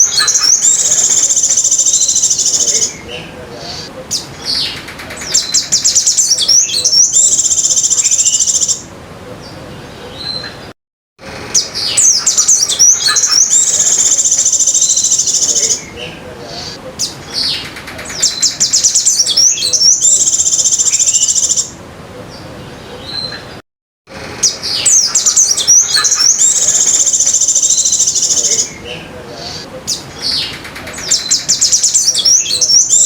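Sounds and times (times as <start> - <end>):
songbird trilling: 0.0 - 10.7, 11.5 - 23.6, 24.4 - 33.0.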